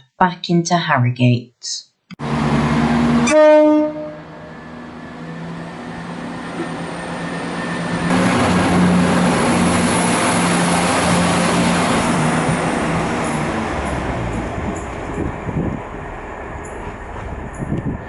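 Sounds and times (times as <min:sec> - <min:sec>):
diesel train passing: 0:02.2 - 0:18.0.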